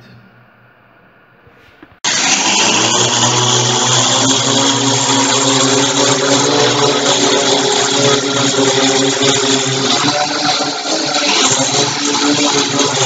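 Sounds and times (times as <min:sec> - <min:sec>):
quadcopter motors humming: 0:02.1 - 0:13.0.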